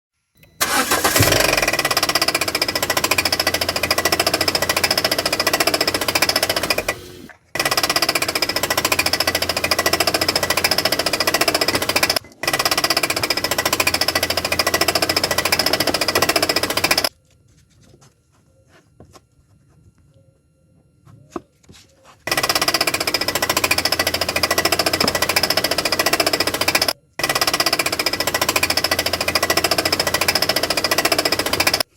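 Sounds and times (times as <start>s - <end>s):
car engine idling with knocking clatter: 0.6s - 17.1s, 22.3s - 31.9s.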